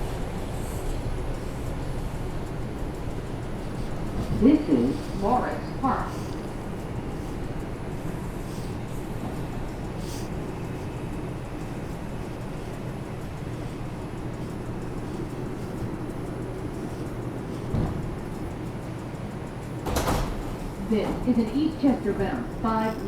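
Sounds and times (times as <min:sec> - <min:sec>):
subway car hum: 0:00.0 - 0:23.0.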